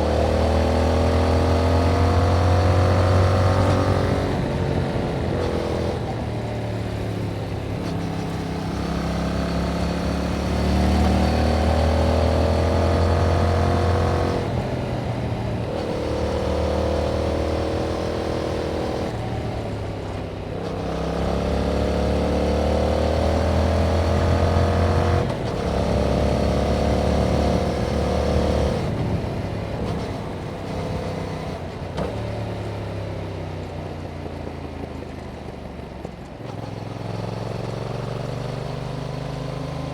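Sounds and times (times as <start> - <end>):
motorcycle engine revving: 0.0 - 33.2, 36.4 - 39.9.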